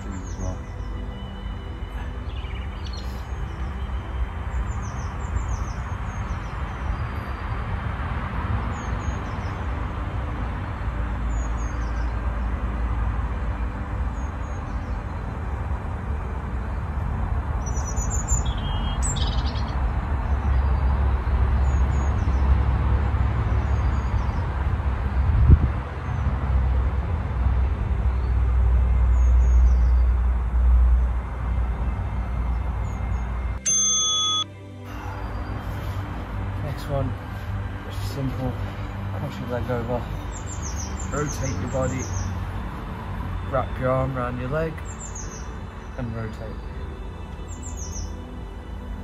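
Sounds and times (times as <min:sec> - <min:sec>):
birds chirping: 0:00.0 - 0:16.8, 0:17.5 - 0:26.7, 0:28.0 - 0:49.0
steady low rumble: 0:00.0 - 0:33.6, 0:34.6 - 0:49.0.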